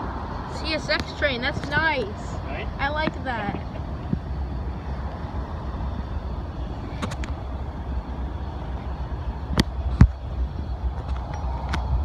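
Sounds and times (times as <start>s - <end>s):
freight train rumbling on rails: 0.0s - 12.0s.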